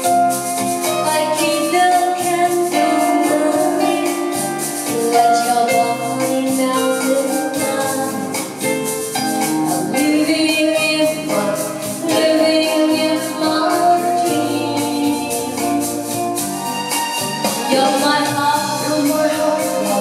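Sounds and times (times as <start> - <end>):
electronic keyboard dance-pop: 0.0 - 20.0
woman singing into a microphone: 0.8 - 8.8, 9.7 - 16.3, 17.6 - 20.0.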